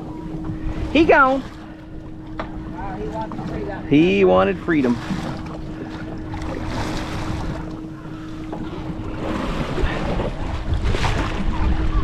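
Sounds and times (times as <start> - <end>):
steady hum: 0.0 - 12.0
water lapping around boat: 0.0 - 12.0
wind buffeting microphone: 0.0 - 12.0.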